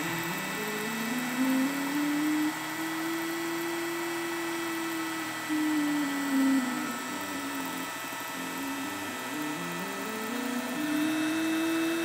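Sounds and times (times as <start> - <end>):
machine hum shifting in pitch: 0.0 - 12.0
router spindle whining: 0.0 - 12.0.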